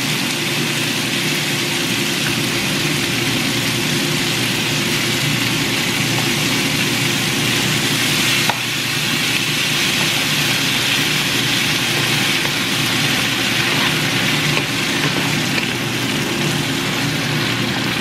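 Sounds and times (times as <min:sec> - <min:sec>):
food sizzling in a skillet: 0:00.0 - 0:18.0
low hum: 0:01.8 - 0:18.0.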